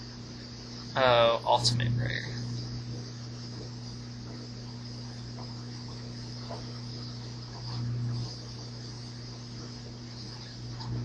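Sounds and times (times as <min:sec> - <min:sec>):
high microphone hiss: 0:00.0 - 0:11.0
low electrical hum: 0:00.0 - 0:11.0.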